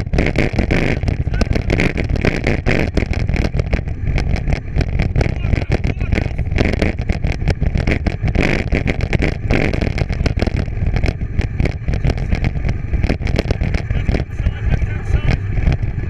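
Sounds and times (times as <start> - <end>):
bike rolling over rough ground: 0.0 - 16.0
wind rumbling on microphone: 0.0 - 16.0.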